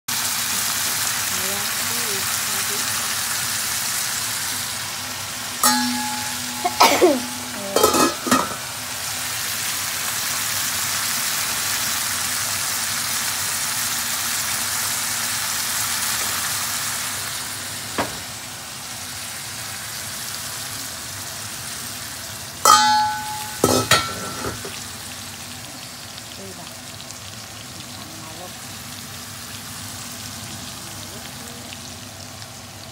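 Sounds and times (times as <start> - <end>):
food sizzling in oil: 0.1 - 32.9.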